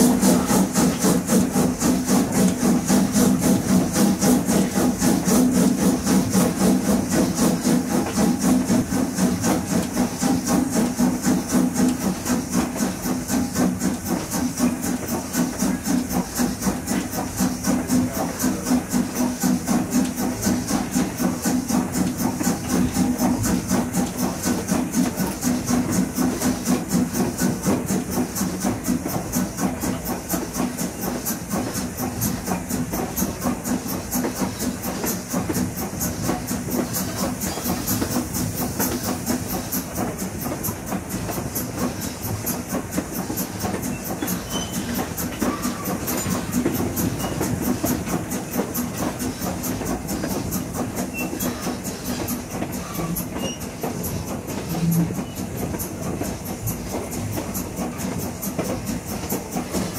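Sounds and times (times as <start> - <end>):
constant train rumble: 0.0 - 59.9
train wheels clattering on rail: 0.0 - 59.9.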